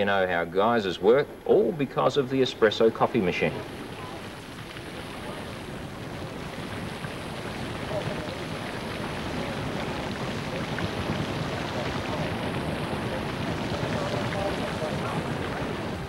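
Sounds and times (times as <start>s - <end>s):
geyser steam rushing hiss: 0.0s - 16.0s.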